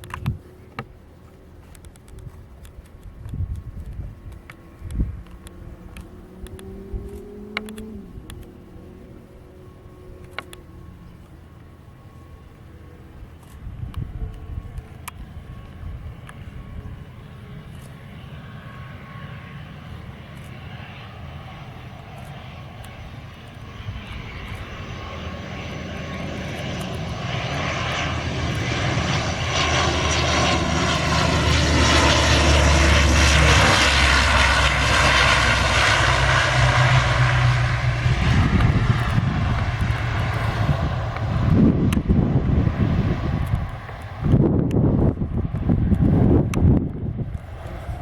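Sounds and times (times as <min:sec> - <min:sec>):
airliner engines droning: 0:00.0 - 0:48.0.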